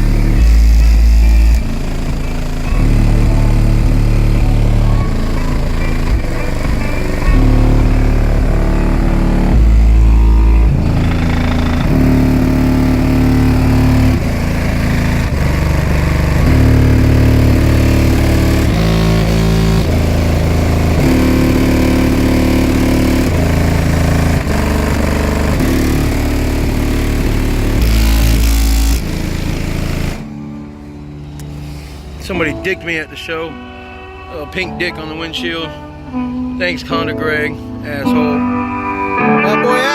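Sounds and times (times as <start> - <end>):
bass-heavy music from car subwoofers: 0.0 - 33.6, 34.3 - 39.9.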